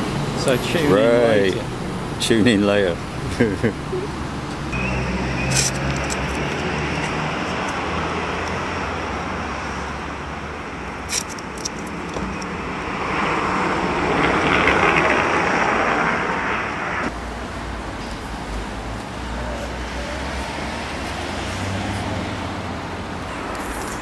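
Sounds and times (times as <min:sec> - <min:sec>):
vehicle passing: 0:00.0 - 0:17.6, 0:18.7 - 0:24.0
road traffic: 0:00.0 - 0:24.0.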